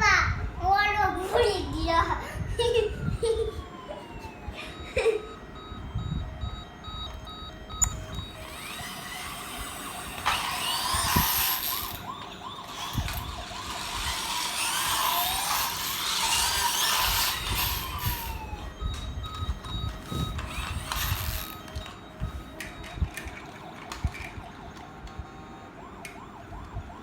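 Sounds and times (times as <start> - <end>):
electronic police siren wailing: 2.8 - 27.0
steady beeping tones: 2.9 - 27.0.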